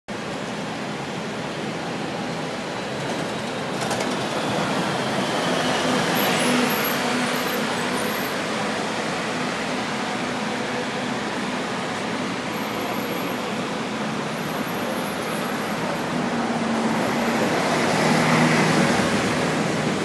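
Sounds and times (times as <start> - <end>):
buses running past: 0.1 - 20.0
city street traffic: 0.1 - 20.0.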